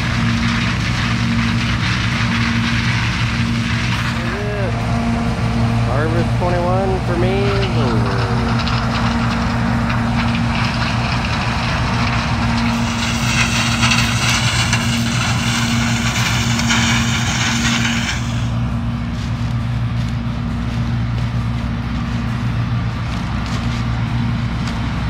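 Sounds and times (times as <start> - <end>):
diesel engine running under load: 0.0 - 25.0
rushing rattling noise: 0.0 - 25.0.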